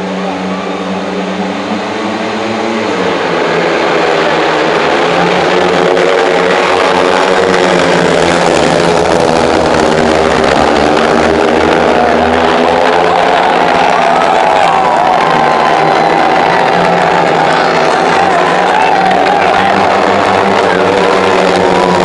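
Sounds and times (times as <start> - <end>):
motorcycle engines racing: 0.0 - 22.0.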